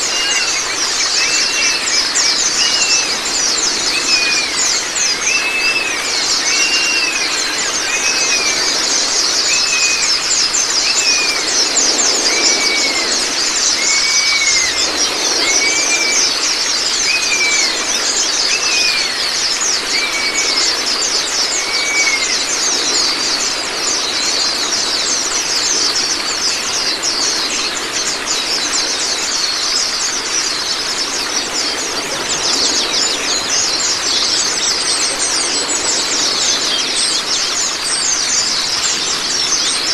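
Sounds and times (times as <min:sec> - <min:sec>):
running water rushing: 0:00.0 - 0:39.9
songbirds twittering: 0:00.0 - 0:39.9.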